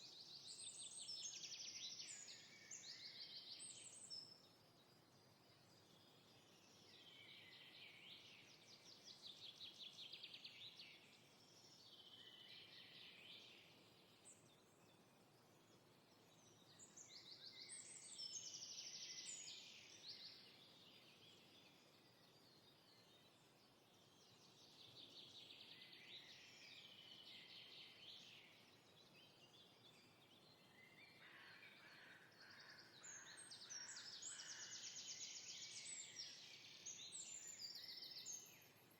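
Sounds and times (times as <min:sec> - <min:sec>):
soft steady hiss: 0:00.0 - 0:38.9.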